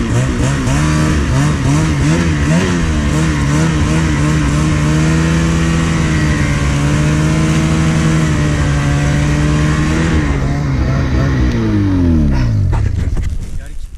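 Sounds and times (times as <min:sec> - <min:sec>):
snowmobile engine high revs: 0:00.0 - 0:13.4.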